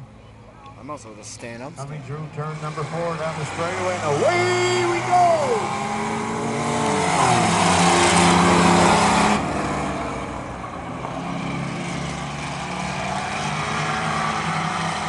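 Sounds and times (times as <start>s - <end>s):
racing truck engines at full throttle: 0.0s - 15.0s.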